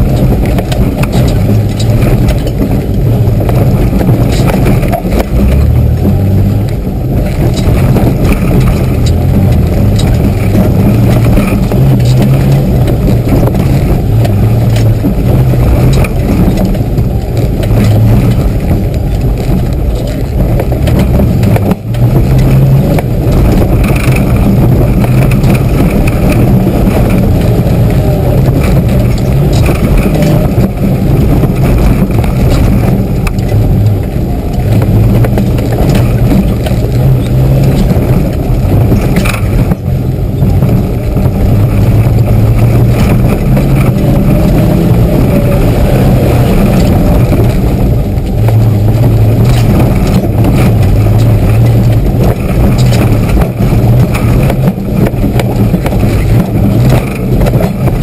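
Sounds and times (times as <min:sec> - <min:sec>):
body and suspension clatter: 0:00.0 - 0:58.0
vehicle engine running under load: 0:00.0 - 0:58.0.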